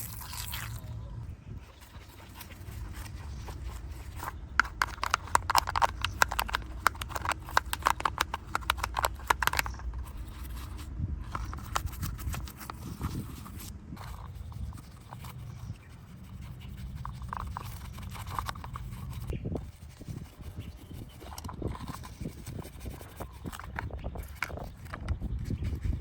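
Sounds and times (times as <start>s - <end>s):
scrubbing on metal toy: 1.8s - 13.2s, 14.0s - 26.0s.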